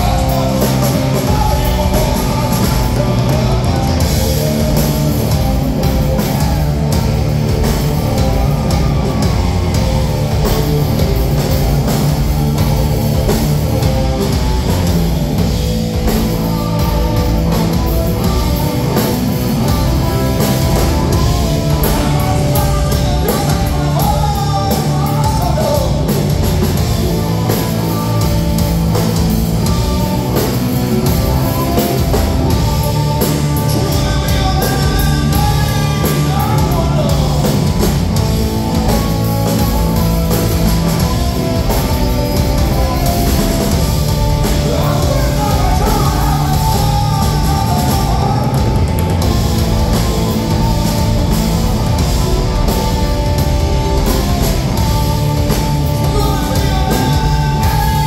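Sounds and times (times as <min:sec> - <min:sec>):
bass guitar: 0:00.0 - 0:58.0
distorted electric guitars: 0:00.0 - 0:58.0
drum kit: 0:00.0 - 0:58.0
person singing: 0:00.0 - 0:58.0.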